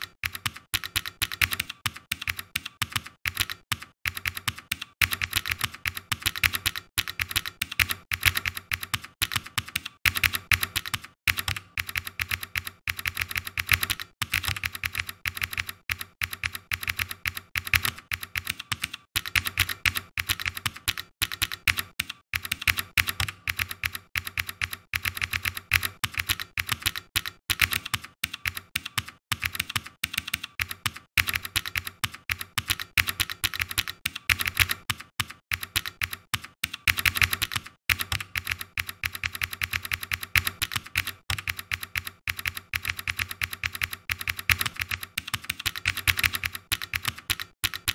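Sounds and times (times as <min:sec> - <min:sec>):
computer keyboard typing: 0:00.0 - 0:47.9.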